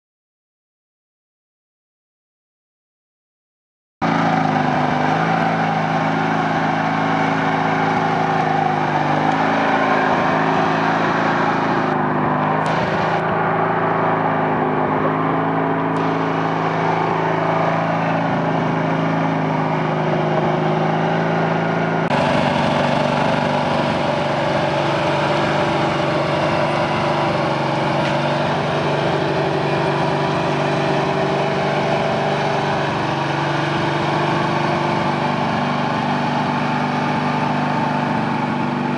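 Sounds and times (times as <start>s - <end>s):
garden tractor engine under load: 4.0s - 38.9s.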